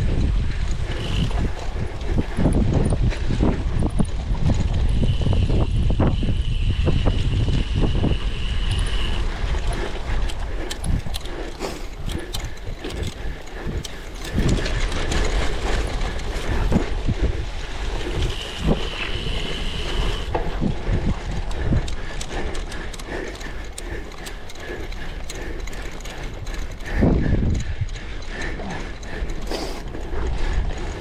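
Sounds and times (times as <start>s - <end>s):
bike rattling over rough ground: 0.0s - 31.0s
wind rumble on microphone: 0.0s - 31.0s.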